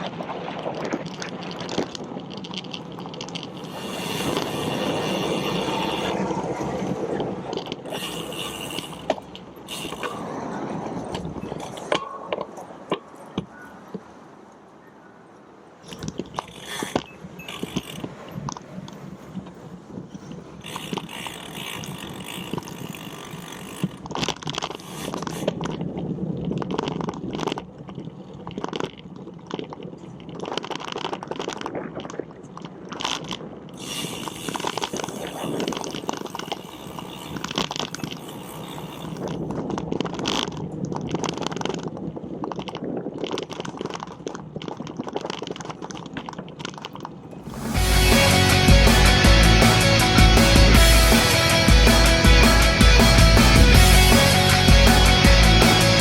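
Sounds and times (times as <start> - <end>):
bicycle clicks and rattles: 0.0 - 13.5, 15.8 - 56.0.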